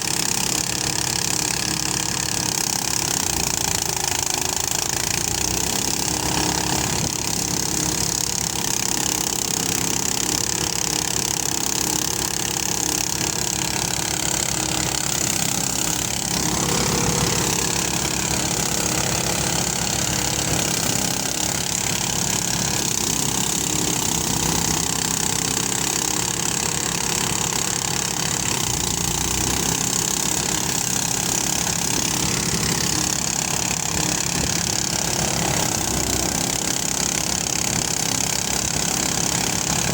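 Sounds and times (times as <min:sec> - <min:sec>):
thresher engine chugging: 0:00.0 - 0:39.9.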